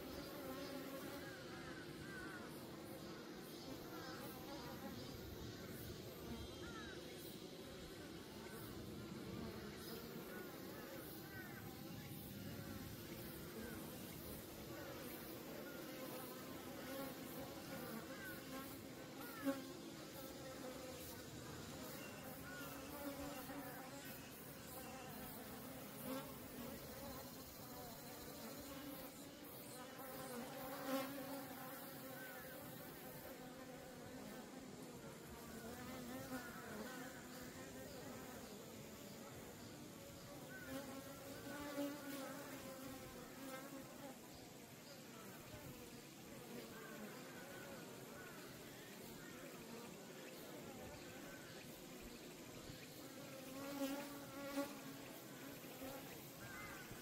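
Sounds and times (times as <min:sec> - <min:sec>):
bees buzzing: 0:00.0 - 0:44.2, 0:49.6 - 0:57.0.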